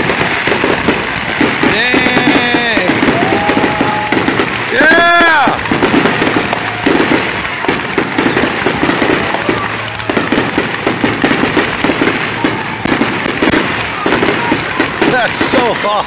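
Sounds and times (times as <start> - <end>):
fireworks popping and crackling: 0.0 - 16.0.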